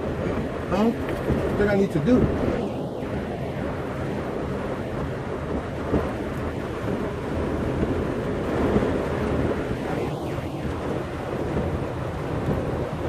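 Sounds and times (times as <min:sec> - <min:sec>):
rain on car roof and windows: 0:00.0 - 0:13.0.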